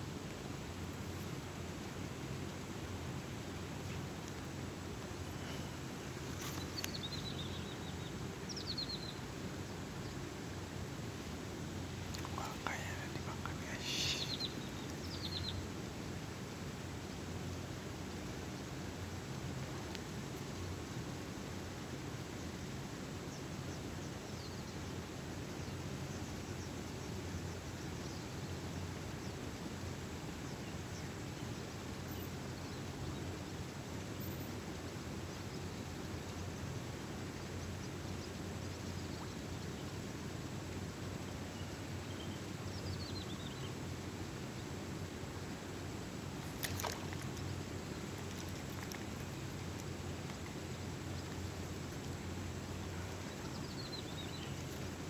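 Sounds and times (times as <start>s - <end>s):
low rushing background noise: 0.0s - 55.0s.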